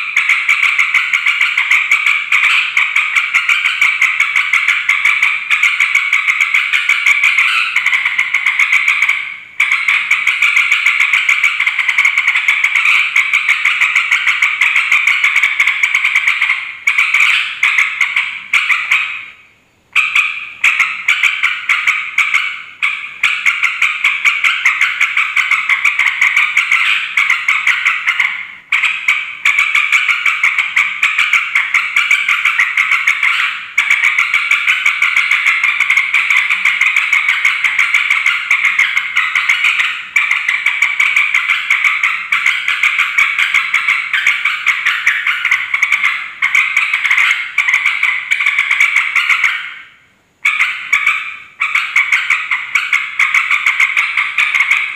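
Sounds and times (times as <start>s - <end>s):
bird chattering: 0.0s - 19.4s, 20.0s - 54.9s.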